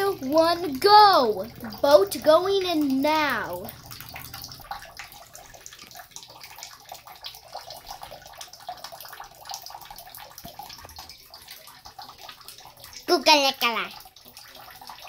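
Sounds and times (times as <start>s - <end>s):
small water splashes: 0.0s - 15.0s
water sloshing in bathtub: 0.0s - 15.0s.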